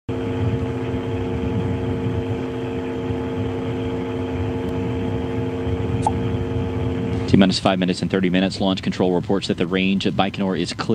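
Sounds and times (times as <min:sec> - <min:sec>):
steady mechanical hum: 0:00.1 - 0:10.9.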